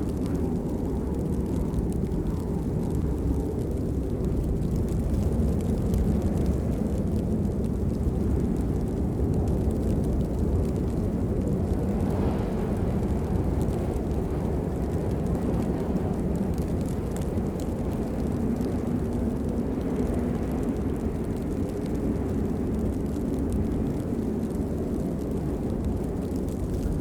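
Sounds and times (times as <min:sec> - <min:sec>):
patter of raindrops: 0:00.0 - 0:27.0
steady rain: 0:00.0 - 0:27.0.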